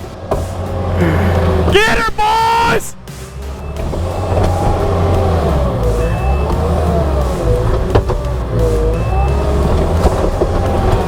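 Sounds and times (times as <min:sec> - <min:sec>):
diesel engine under load: 0:00.0 - 0:11.0
hydraulic whine: 0:00.0 - 0:11.0.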